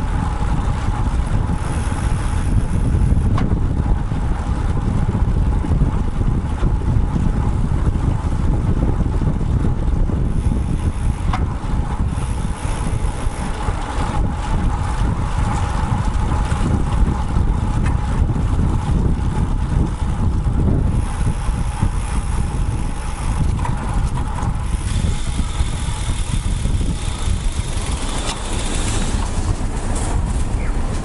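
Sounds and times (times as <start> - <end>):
road and traffic noise: 0.0 - 31.0
wind buffeting microphone: 0.0 - 31.0.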